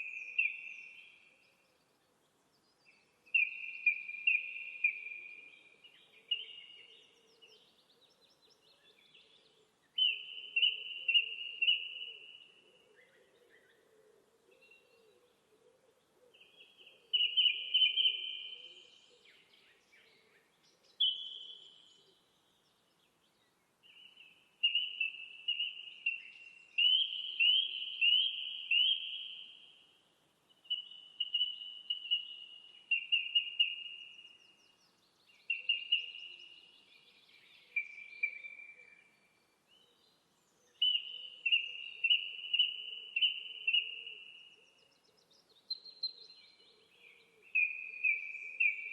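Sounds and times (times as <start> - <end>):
small songbird singing: 0.0 - 13.8, 16.3 - 48.9.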